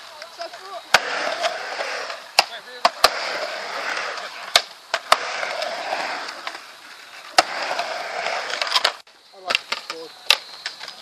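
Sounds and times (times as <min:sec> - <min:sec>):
skateboard clacks: 0:00.0 - 0:06.6, 0:07.3 - 0:11.0
skateboard wheels rolling on concrete: 0:00.0 - 0:11.0.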